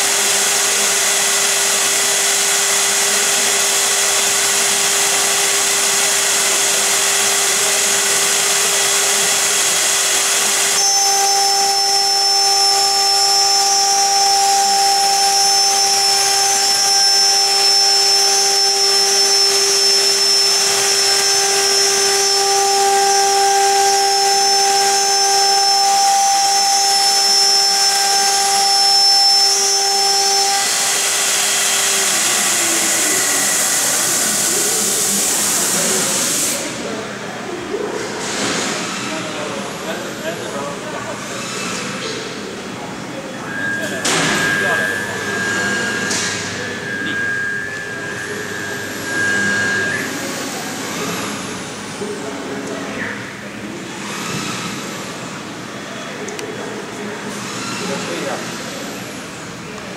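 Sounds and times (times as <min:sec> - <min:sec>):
higher whining tones: 0:00.0 - 0:59.9
router spindle whining: 0:00.0 - 0:59.9.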